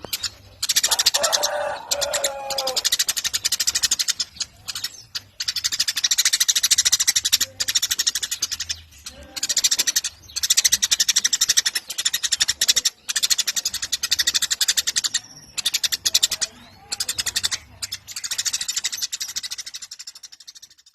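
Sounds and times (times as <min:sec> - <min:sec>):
sparrow chattering: 0:00.0 - 0:20.9.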